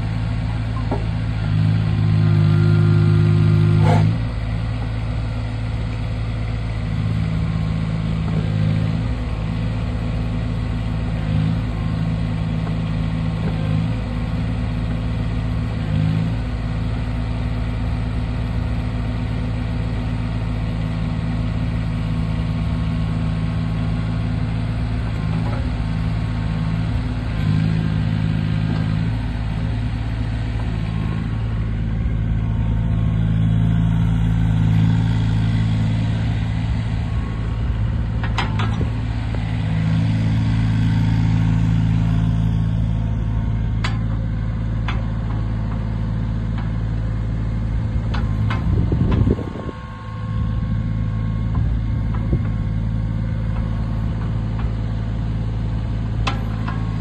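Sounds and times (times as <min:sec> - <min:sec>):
mini excavator diesel engine running: 0:00.0 - 0:57.0.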